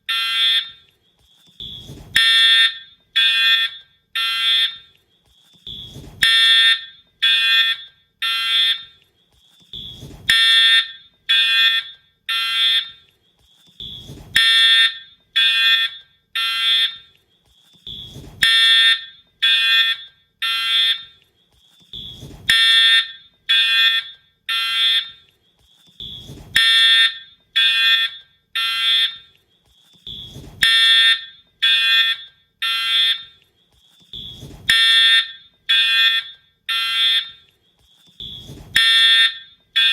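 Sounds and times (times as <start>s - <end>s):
buzzy fire alarm horn blasts: 0.0s - 9.0s, 9.7s - 39.9s.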